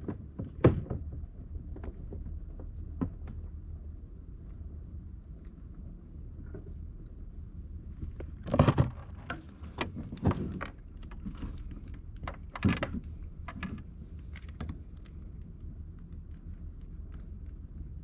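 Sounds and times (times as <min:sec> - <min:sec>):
low rumble: 0:01.1 - 0:18.0.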